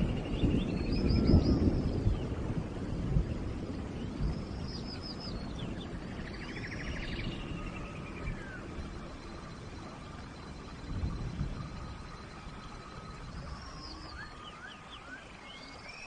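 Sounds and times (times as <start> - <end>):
forest birds calling: 0.0 - 2.4, 3.4 - 16.0
rain rushing: 0.0 - 16.0.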